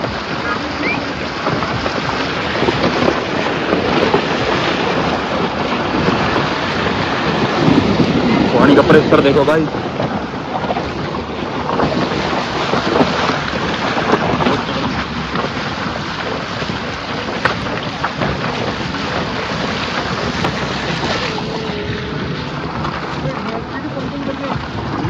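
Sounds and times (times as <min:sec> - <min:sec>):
rushing stream water: 0:00.0 - 0:25.0
wind buffeting microphone: 0:00.0 - 0:25.0.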